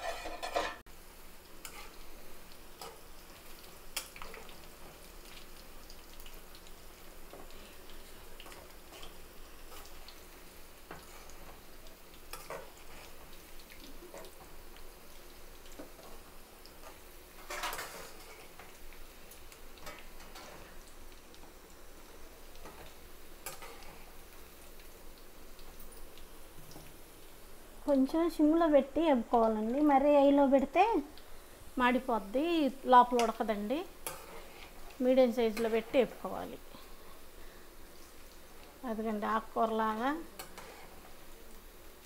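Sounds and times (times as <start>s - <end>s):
food deep-frying in hot oil: 0.0s - 42.0s.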